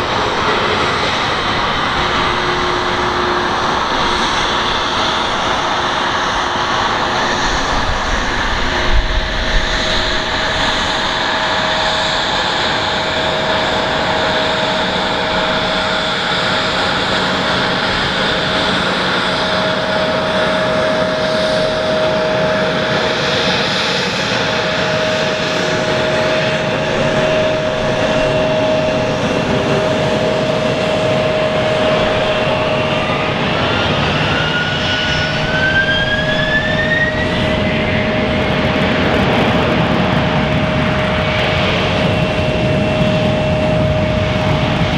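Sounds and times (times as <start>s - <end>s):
jet engines whining at taxi: 0.0s - 44.9s.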